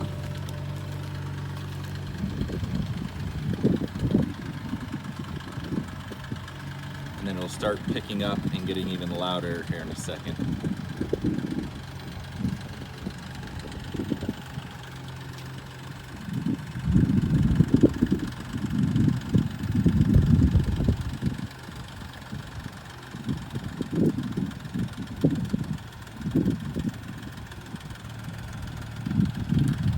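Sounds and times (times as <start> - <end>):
car engine idling: 0.0 - 29.9
engine ticking: 0.0 - 29.9
low rumbling engine surges: 0.0 - 29.9.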